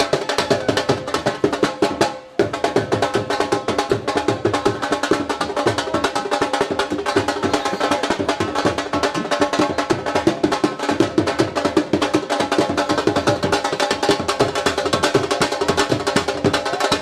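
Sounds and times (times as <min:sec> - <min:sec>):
drums played fast: 0:00.0 - 0:17.0.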